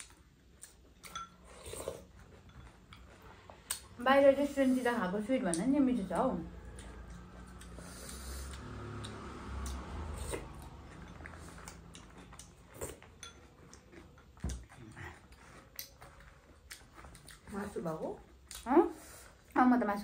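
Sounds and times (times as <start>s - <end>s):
chewing: 0.0s - 20.0s.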